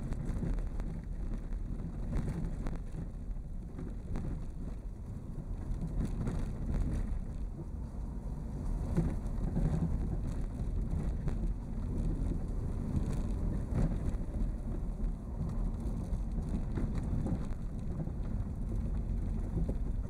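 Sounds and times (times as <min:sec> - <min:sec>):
vehicle driving low rumble: 0:00.0 - 0:20.0.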